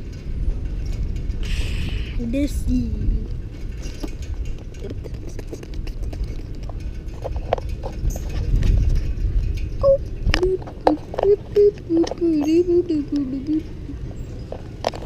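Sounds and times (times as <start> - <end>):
tuk-tuk rumbling on concrete: 0.0 - 15.0.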